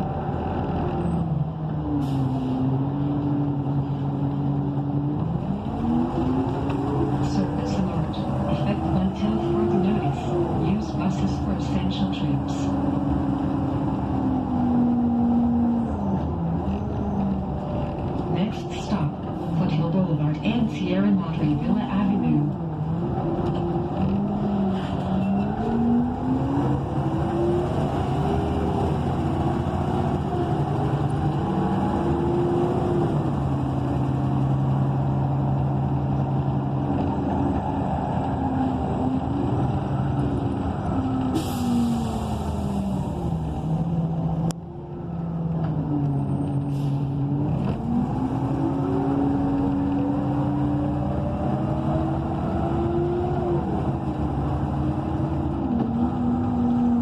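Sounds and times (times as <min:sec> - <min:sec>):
bus engine and transmission: 0:00.0 - 0:57.0.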